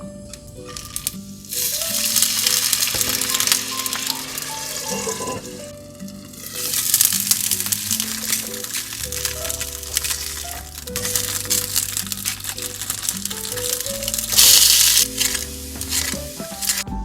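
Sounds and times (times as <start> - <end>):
dumplings sizzling in a frying pan: 0.7 - 16.8.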